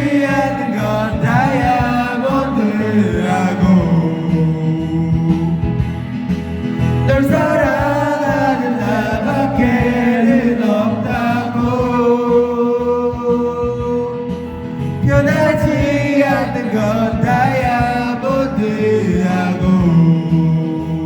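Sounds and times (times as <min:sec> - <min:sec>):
person singing along: 0:00.0 - 0:06.0, 0:07.0 - 0:21.0
karaoke backing track: 0:00.0 - 0:21.0.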